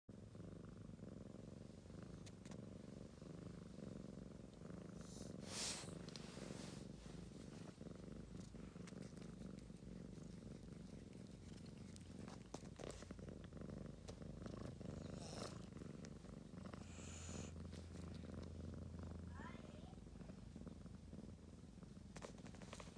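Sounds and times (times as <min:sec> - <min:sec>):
cat purring: 0:00.1 - 0:22.9.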